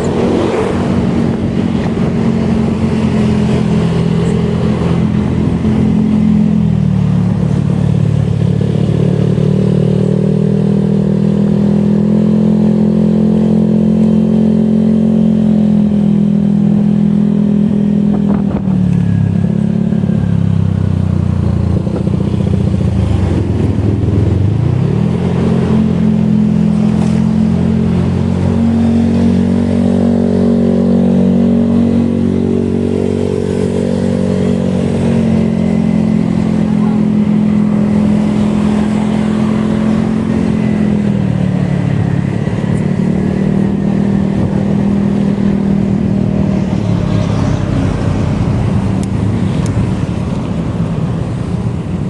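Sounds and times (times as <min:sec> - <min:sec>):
motorcycle engine while riding: 0:00.0 - 0:52.0.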